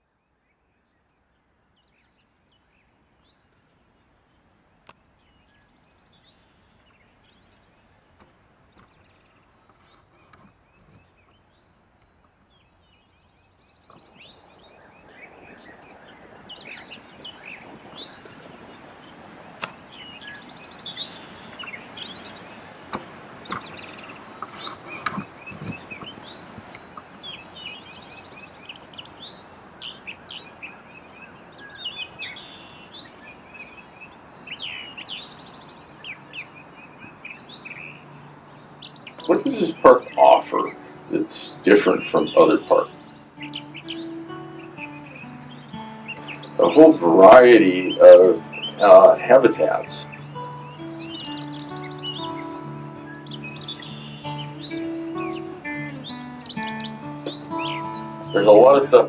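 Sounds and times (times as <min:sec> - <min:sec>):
steady outdoor hiss: 0:00.0 - 0:59.0
birds chirping and singing: 0:05.3 - 0:59.0.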